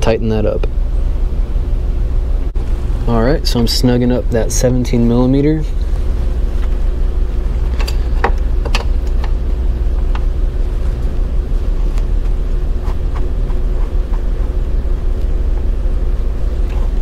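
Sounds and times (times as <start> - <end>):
faint steady hum: 0.0 - 17.0
steady low rumble: 0.0 - 17.0.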